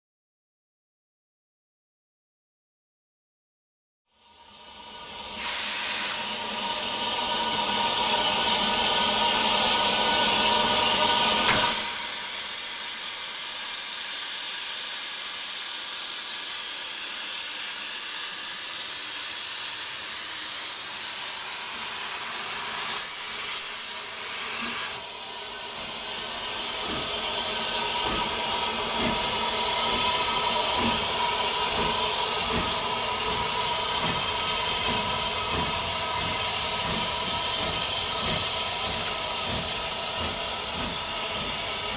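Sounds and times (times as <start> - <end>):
steam locomotive exhaust chuffs: 4.3 - 41.9
steam locomotive hissing: 4.3 - 41.9.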